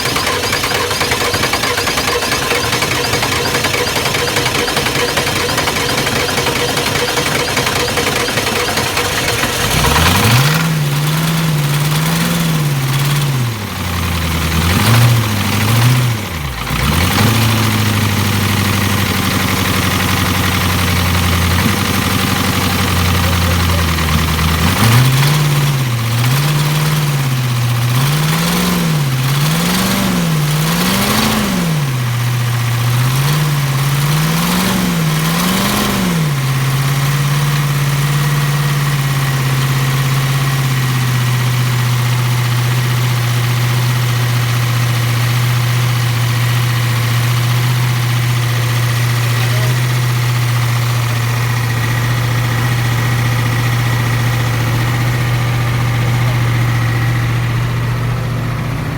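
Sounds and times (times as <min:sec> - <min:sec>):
diesel engine revving and idling: 0:00.0 - 0:58.9.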